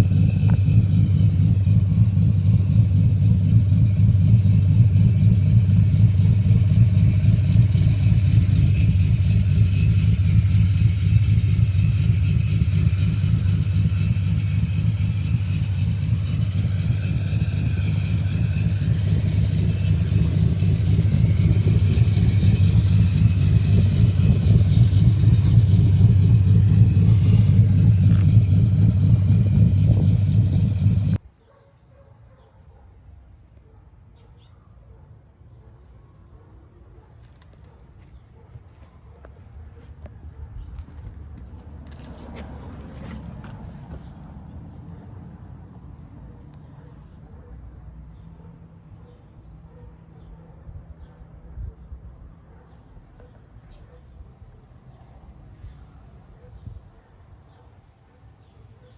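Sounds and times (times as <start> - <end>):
vehicle engine rumbling: 0.0 - 31.4, 36.5 - 58.9.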